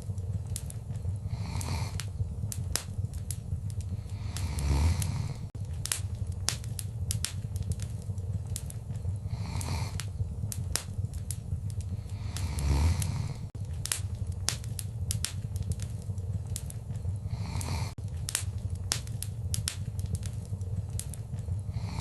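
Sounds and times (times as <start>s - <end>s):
fire hissing flare-ups: 0.0s - 22.0s
wood fire crackling: 0.0s - 22.0s.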